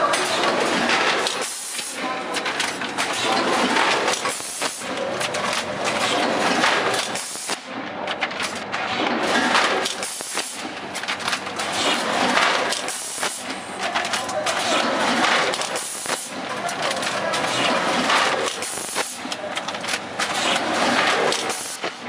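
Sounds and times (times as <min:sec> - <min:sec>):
packing machine clattering: 0:00.0 - 0:22.0.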